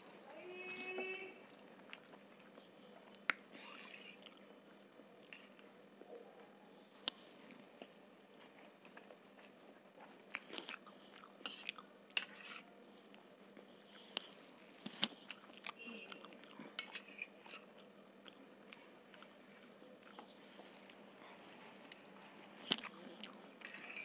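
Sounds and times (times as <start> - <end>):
chewing noodles: 1.4 - 5.7, 6.9 - 24.0.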